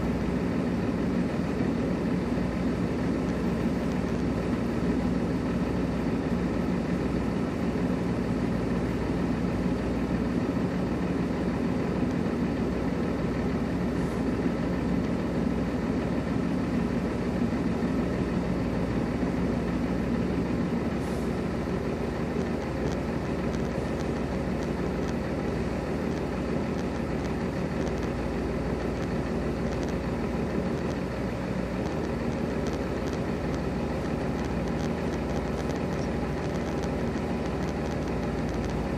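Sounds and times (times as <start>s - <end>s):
diesel truck engines idling: 0.0s - 38.9s.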